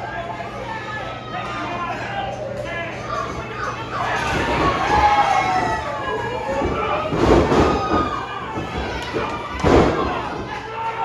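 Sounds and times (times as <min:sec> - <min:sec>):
crowd shouting and cheering: 0:00.0 - 0:11.0.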